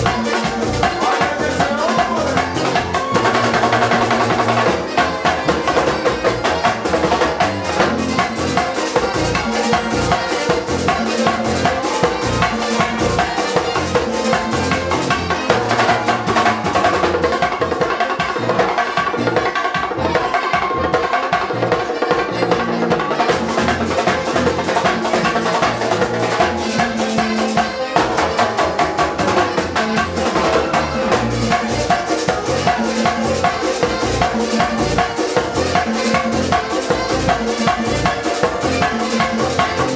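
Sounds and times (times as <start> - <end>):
drums: 0.0 - 39.9
guitar: 0.0 - 39.9
keyboard: 0.0 - 39.9
latin band music: 0.0 - 39.9.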